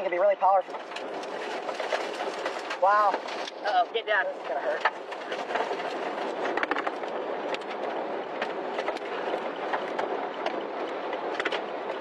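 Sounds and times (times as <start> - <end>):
rain: 0.0 - 12.0.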